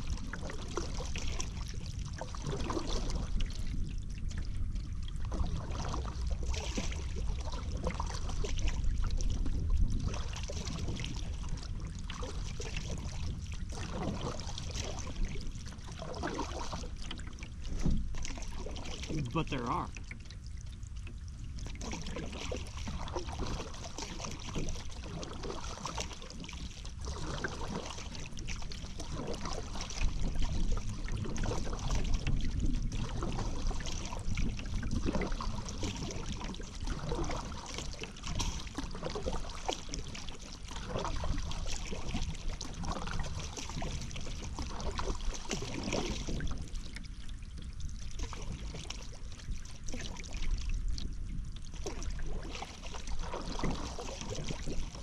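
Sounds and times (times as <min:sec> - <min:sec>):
paddle strokes in water: 0:00.0 - 0:55.0.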